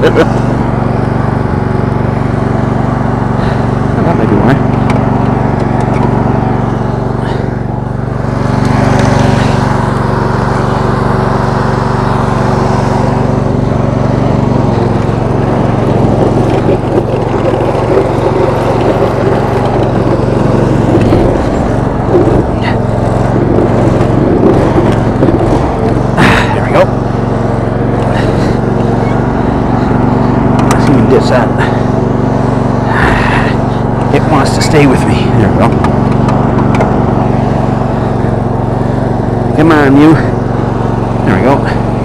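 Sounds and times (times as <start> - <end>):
lawn tractor engine running: 0.0 - 42.0.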